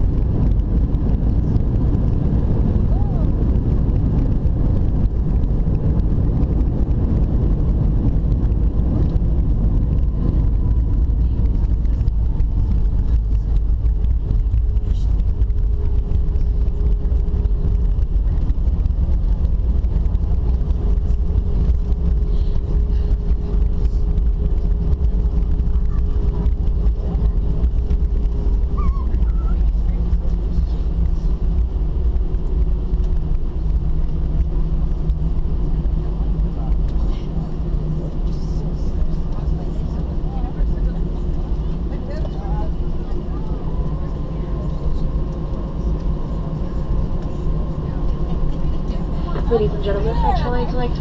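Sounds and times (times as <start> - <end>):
aircraft cabin rumble: 0.0 - 51.0
faint whine: 0.0 - 51.0
steady hum: 0.0 - 51.0.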